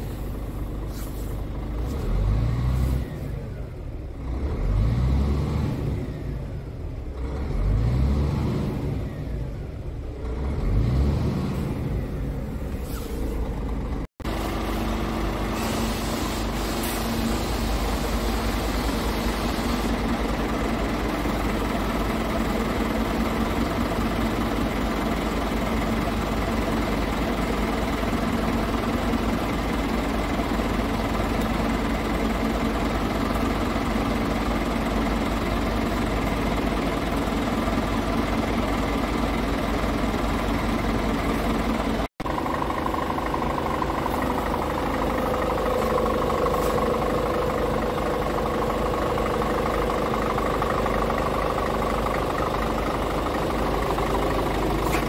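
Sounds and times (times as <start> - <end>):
diesel truck engine revving and idling: 0.0 - 55.0.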